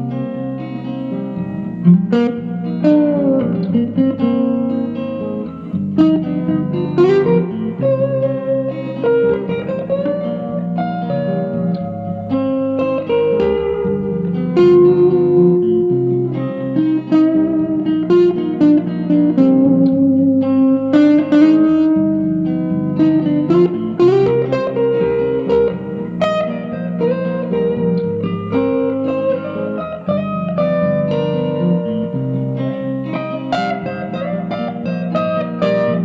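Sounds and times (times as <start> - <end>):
electric guitar playing: 0.0 - 36.0.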